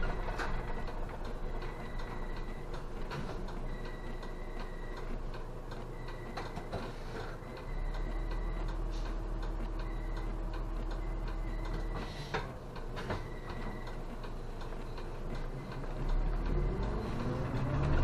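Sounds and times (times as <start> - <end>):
turn signal ticking: 0.8 - 6.6, 7.5 - 12.0, 12.7 - 18.0.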